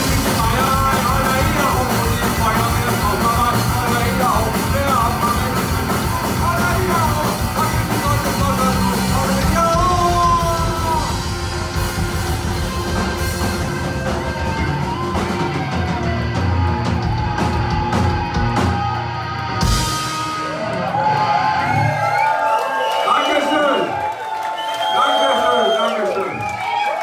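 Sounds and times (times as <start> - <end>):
punk rock band playing: 0.0 - 22.6.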